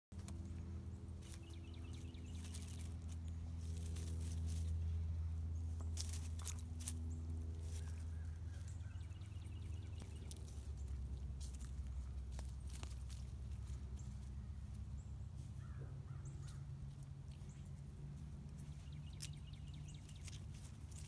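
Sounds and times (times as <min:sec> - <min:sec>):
low hum: 0:00.1 - 0:21.0
scuffling on dirt and dry leaves: 0:00.2 - 0:21.0.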